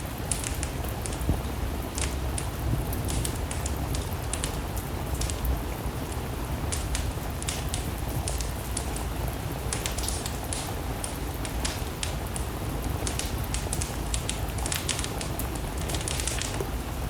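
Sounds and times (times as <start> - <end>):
steady rain: 0.0 - 17.0
wood fire crackling and popping: 0.0 - 17.0.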